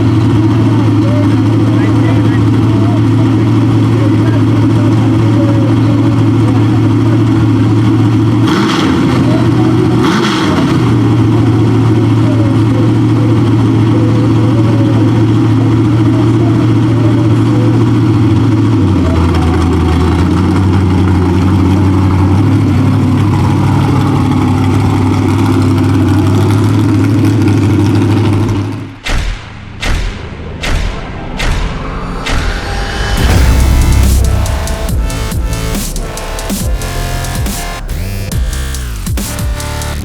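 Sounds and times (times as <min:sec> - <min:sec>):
truck engine idling: 0:00.0 - 0:29.1, 0:29.8 - 0:40.0
engine throttle blips: 0:00.0 - 0:40.0.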